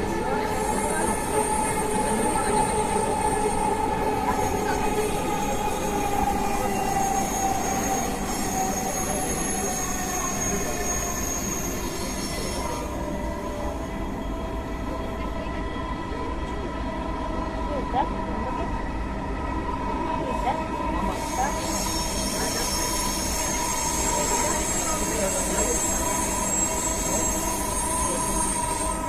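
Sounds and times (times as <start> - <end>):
train rumble inside carriage: 0.0 - 29.0.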